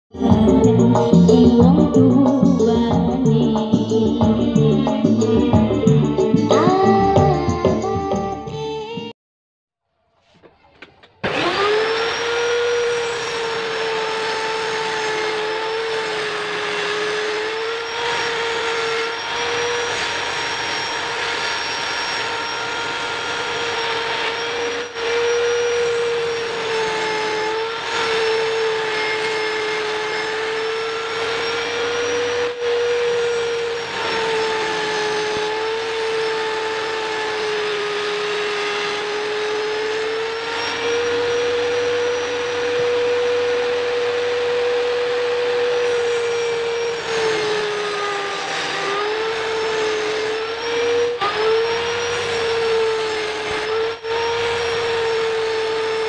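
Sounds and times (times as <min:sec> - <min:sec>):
table saw whining: 0:00.1 - 0:09.1, 0:10.1 - 0:56.0.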